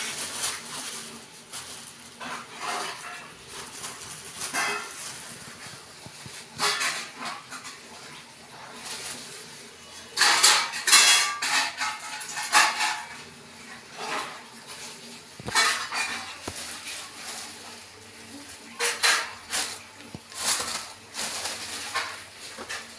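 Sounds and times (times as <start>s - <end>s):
plastic bag crinkling: 0.0s - 22.9s.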